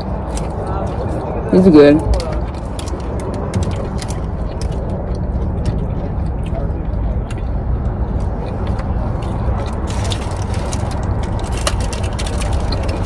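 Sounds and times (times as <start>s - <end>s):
chewing and biting sandwich: 0.0s - 13.0s
low rumble: 0.0s - 13.0s.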